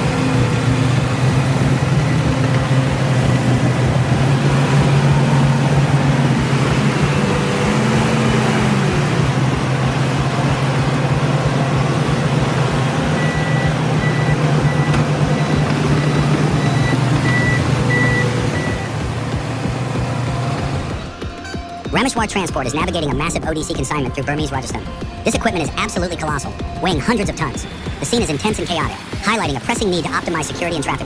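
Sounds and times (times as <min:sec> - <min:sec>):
diesel machinery engine running: 0:00.0 - 0:31.0
reversing alarm beeping: 0:00.0 - 0:31.0.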